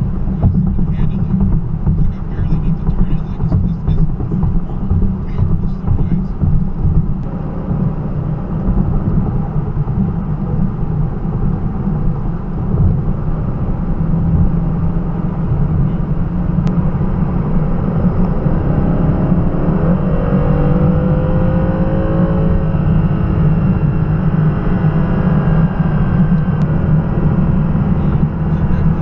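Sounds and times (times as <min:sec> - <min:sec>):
car engine rumble: 0:00.0 - 0:29.0
road noise: 0:00.0 - 0:29.0.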